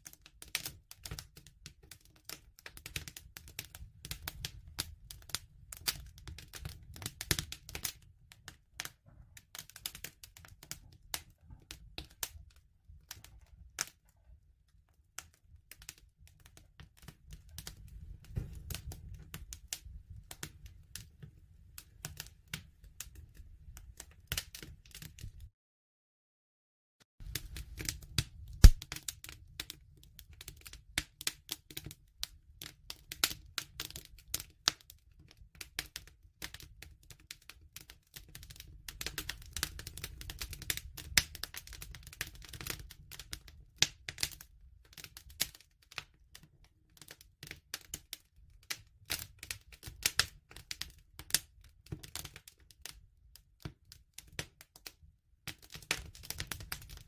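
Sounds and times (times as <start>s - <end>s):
wood fire crackling: 0.0s - 25.5s, 27.2s - 53.0s, 53.6s - 57.0s.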